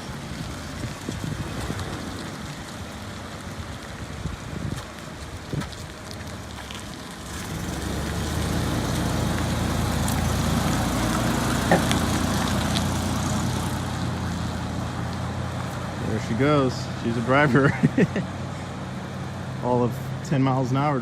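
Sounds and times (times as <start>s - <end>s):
van engine running: 0.0s - 21.0s.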